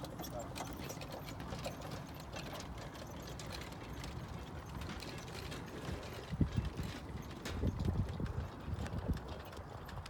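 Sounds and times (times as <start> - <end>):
carriage wheels rumbling: 0.0 - 10.0.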